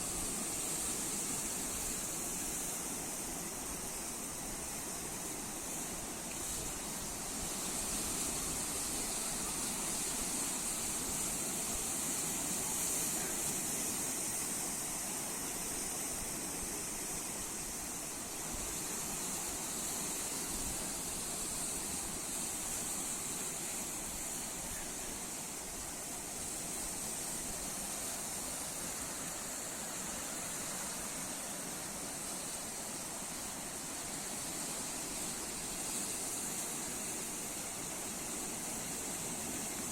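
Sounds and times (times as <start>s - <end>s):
sea surf rushing: 0.0s - 39.9s.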